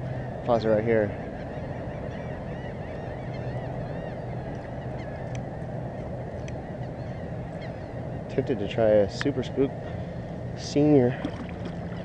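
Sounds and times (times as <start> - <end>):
steady low rumble: 0.0 - 12.0
waterbirds calling: 0.0 - 12.0.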